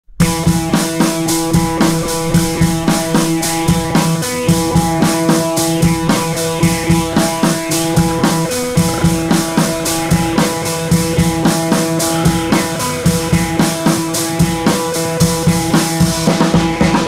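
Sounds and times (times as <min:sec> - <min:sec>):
held chord tones: 0:00.2 - 0:16.9
drum kit beat: 0:00.2 - 0:17.0.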